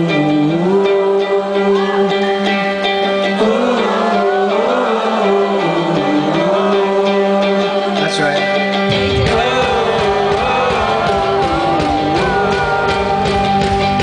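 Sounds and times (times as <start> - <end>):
wordless vocal melody: 0.0 - 8.0, 8.9 - 14.0
electric guitar: 0.0 - 14.0.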